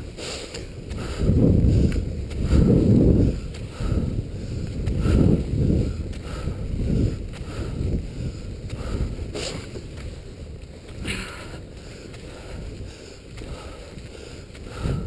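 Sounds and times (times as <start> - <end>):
skis gliding on snow: 0.0 - 15.0
wind gusts on microphone: 0.0 - 15.0.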